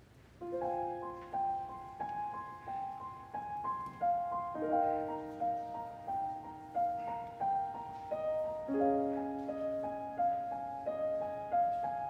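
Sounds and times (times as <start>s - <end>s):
faint hall hum: 0.0s - 12.0s
grand piano playing: 0.4s - 12.0s.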